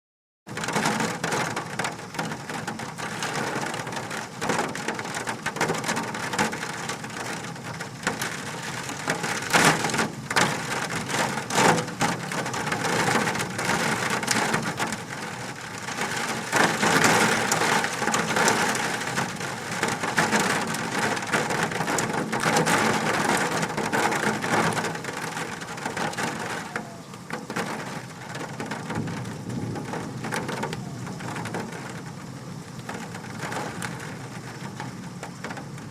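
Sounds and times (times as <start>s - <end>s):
hailstones clattering: 0.5s - 35.9s.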